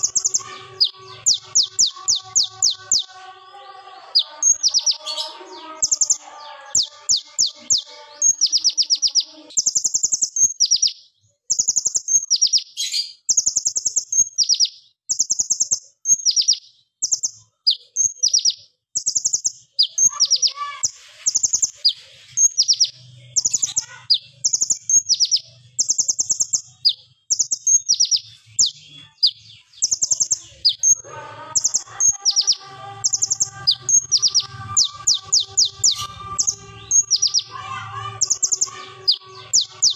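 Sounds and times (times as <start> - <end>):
bird singing fast high trills: 0.0 - 11.0, 11.6 - 39.9.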